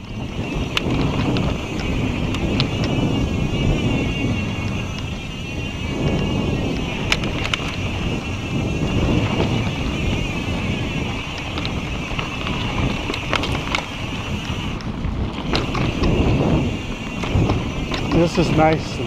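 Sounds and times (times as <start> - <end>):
bike clicks and rattles: 0.0 - 19.0
bike tyres on dirt: 0.0 - 19.0
wind on microphone: 0.0 - 19.0.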